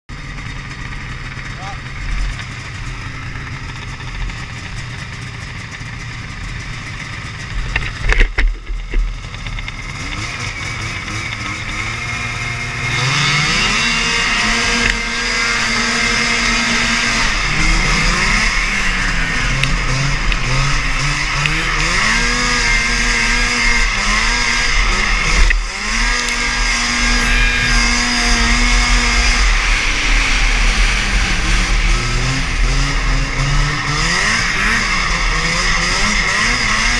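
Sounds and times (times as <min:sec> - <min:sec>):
engine bursts: 0:00.1 - 0:36.9
snowmobile engines: 0:00.1 - 0:36.9.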